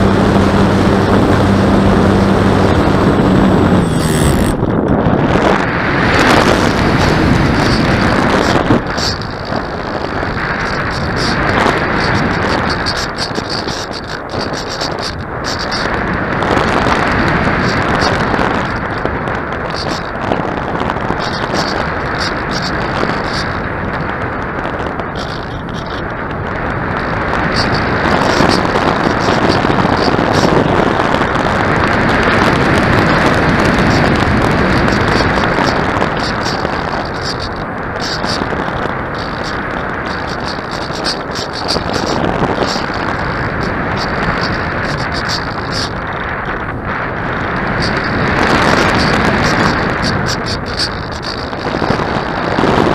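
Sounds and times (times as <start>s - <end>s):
wind on microphone: 0.0s - 52.9s.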